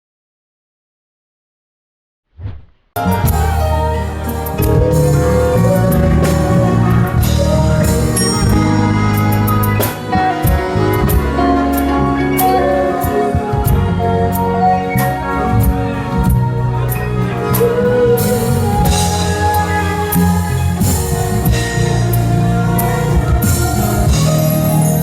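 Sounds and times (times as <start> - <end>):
bass line: 3.0 - 25.0
keyboard chords: 3.0 - 25.0.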